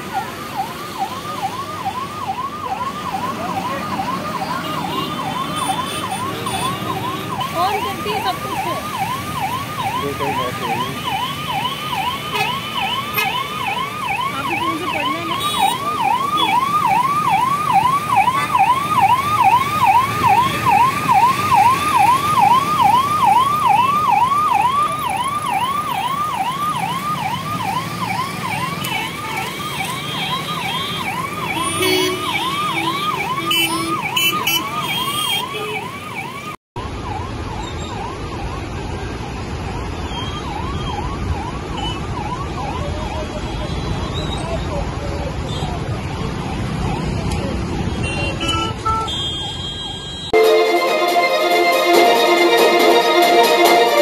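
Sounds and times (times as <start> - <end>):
emergency siren whooping: 0.0 - 43.7, 45.9 - 48.2, 50.3 - 54.0
road traffic noise: 0.0 - 54.0.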